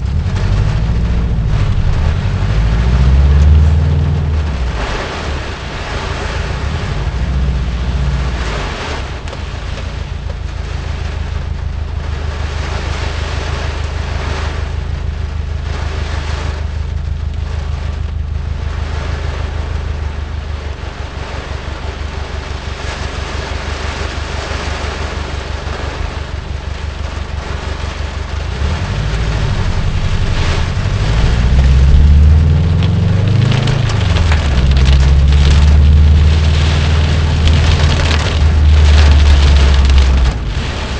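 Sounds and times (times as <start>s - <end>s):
car engine hum: 0.0s - 40.9s
heavy rain on car: 0.0s - 40.9s
road noise: 0.0s - 40.9s.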